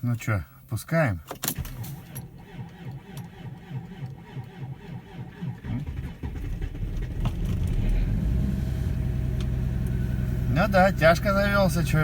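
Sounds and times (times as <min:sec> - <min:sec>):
diesel engine cranking: 0:01.4 - 0:12.0
diesel engine running: 0:01.8 - 0:12.0.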